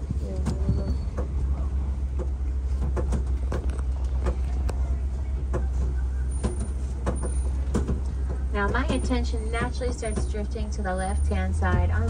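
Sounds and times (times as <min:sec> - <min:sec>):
knocks and rattles from bumps: 0:00.0 - 0:10.7
truck engine and road rumble: 0:00.0 - 0:12.0.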